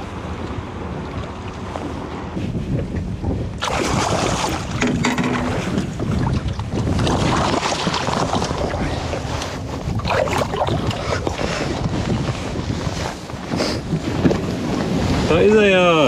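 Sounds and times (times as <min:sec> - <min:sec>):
water splashing around boat: 0:00.0 - 0:16.0
wind buffeting microphone: 0:00.0 - 0:16.0.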